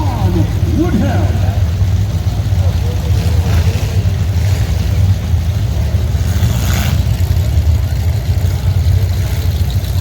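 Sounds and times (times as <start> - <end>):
car engines rumbling: 0.0 - 10.0.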